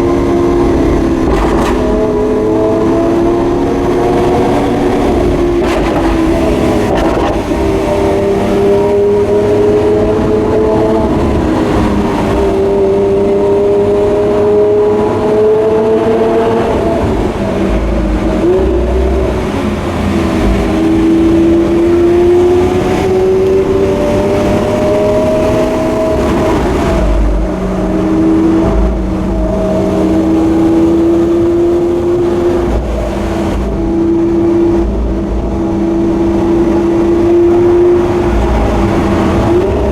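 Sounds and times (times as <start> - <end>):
car engine shifting through gears: 0.0 - 39.9.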